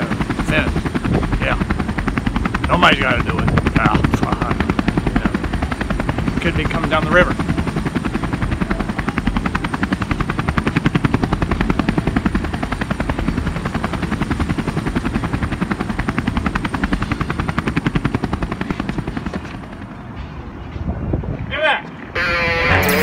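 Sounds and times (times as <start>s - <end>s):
helicopter rotor chopping: 0.0s - 20.5s, 21.9s - 23.0s.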